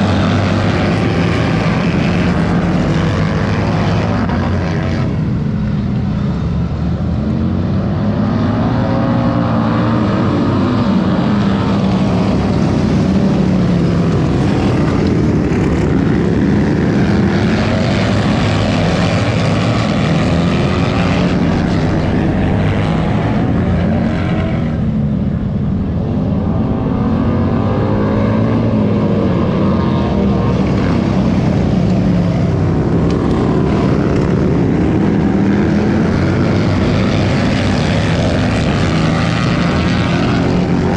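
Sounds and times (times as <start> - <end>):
racing motorcycle engines: 0.0 - 40.9.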